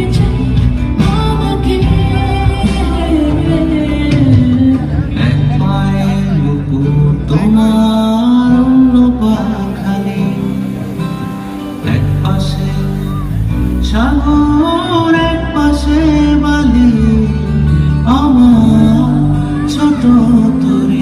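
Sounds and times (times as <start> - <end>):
person singing: 0.0 - 21.0
plucked guitar: 0.0 - 21.0.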